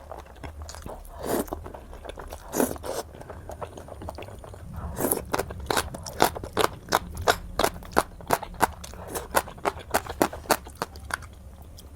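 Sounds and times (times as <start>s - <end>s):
person chewing crisp food: 0.0s - 11.9s.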